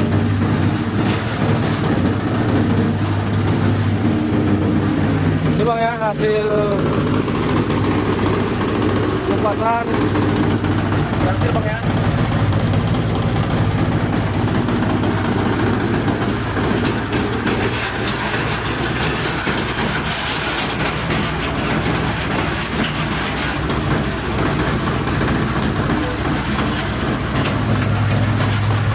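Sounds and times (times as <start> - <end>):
machine rattling: 0.0 - 28.9.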